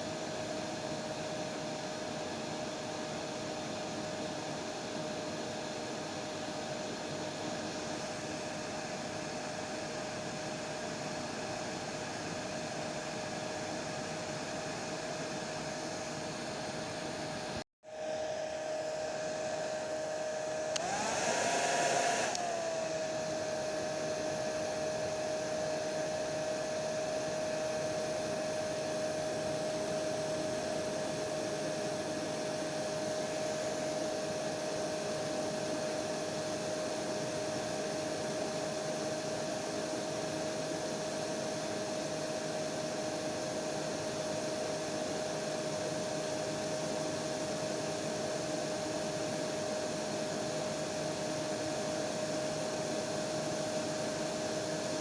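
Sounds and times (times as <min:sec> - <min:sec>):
hair dryer whirring: 0:00.0 - 0:55.0.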